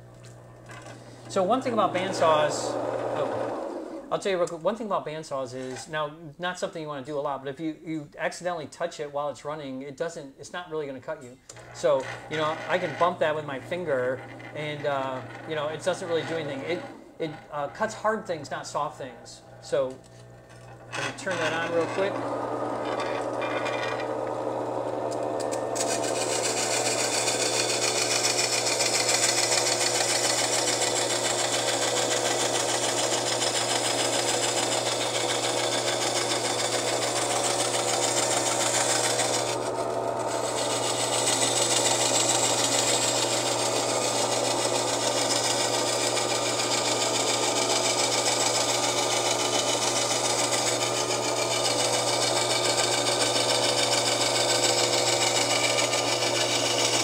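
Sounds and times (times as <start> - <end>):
bandsaw grinding through glass: 0.7 - 4.1, 11.5 - 18.0, 19.6 - 57.0.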